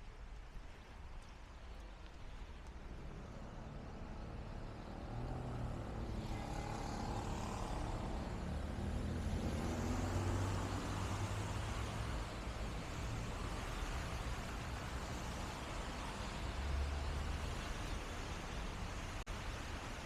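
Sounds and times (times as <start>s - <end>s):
tyres hissing on wet street: 0.1s - 20.0s.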